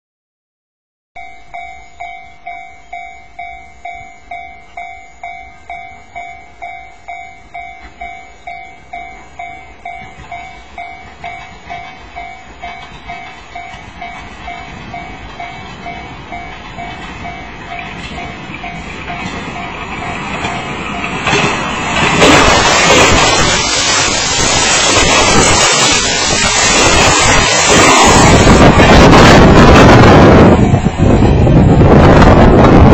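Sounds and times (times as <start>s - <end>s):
level crossing warning bell: 1.2s - 31.9s
train rumble: 1.2s - 32.9s.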